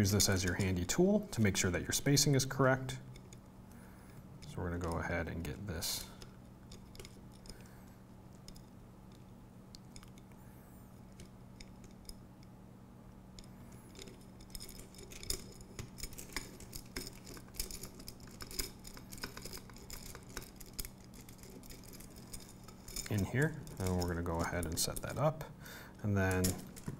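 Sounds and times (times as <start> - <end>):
metallic clicks and rattles: 0.0 - 3.5, 4.4 - 10.4, 11.0 - 12.5, 13.3 - 25.4, 26.0 - 26.9
low steady hum: 0.0 - 26.9.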